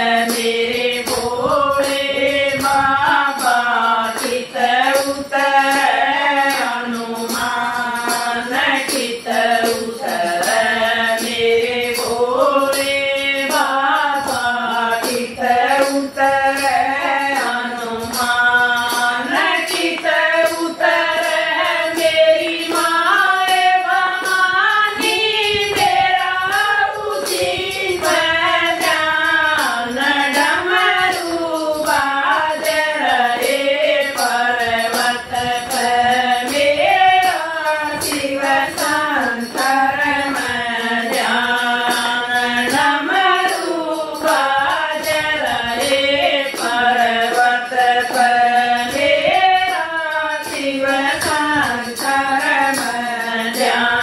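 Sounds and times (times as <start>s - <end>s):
jingling hand percussion: 0.0s - 54.0s
women singing in unison: 0.0s - 54.0s.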